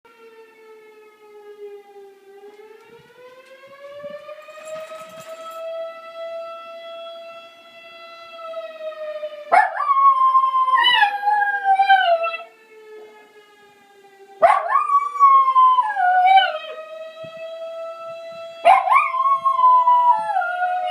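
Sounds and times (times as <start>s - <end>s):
wailing siren-like tone: 0.1s - 20.9s.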